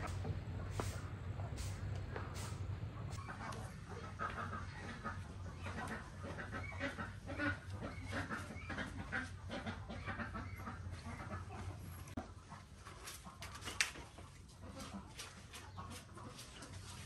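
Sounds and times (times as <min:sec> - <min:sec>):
chickens clucking: 0:00.0 - 0:17.0
low steady hum: 0:00.0 - 0:17.0.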